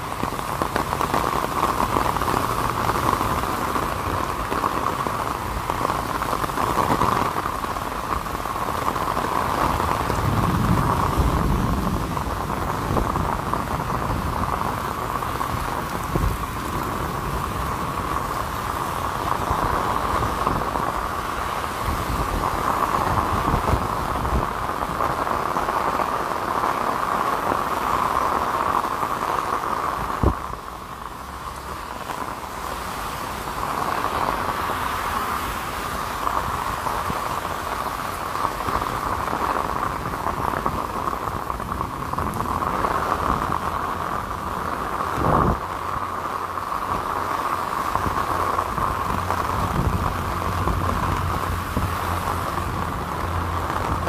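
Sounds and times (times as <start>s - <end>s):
cars hissing past on wet road: 0.0s - 54.0s
heavy rain on an umbrella: 0.0s - 54.0s.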